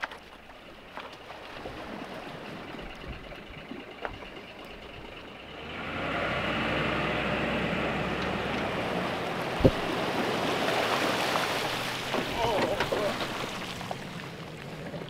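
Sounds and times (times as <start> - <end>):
low vehicle rumble: 0.0 - 15.0
water rushing and splashing: 0.0 - 15.0.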